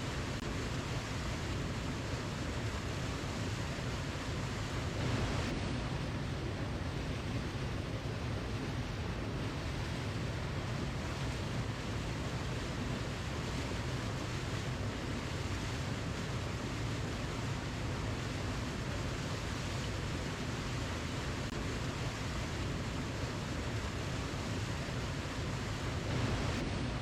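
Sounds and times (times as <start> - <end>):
waterfall rushing: 0.1 - 27.0.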